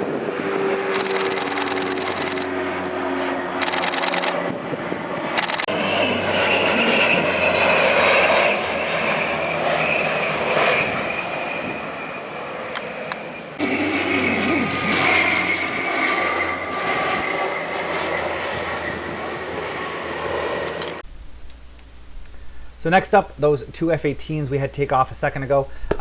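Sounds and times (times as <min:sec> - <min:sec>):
turboprop aircraft flying past: 0:00.0 - 0:21.0
high engine whine: 0:00.0 - 0:25.5.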